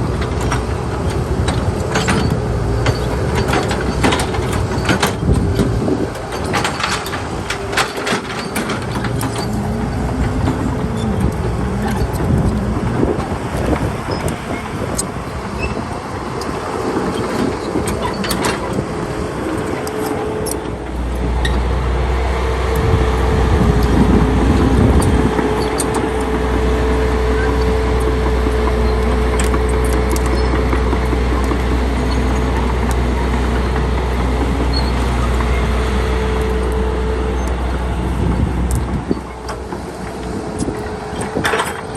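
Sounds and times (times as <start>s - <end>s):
clanks and knocks: 0.0s - 21.7s, 22.7s - 41.9s
diesel engine running: 0.0s - 41.9s.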